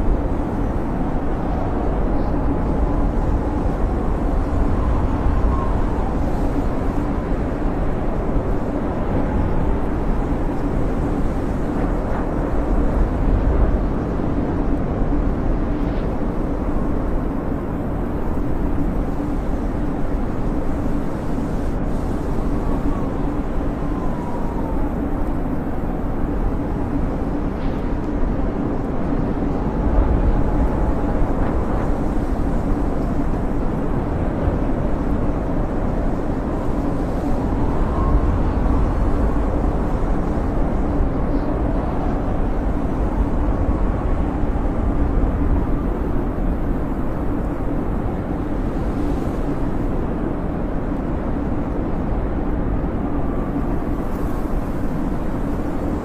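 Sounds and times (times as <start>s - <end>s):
faint wind whistling: 0.0s - 56.0s
wind blowing with deep rumble: 0.0s - 56.0s.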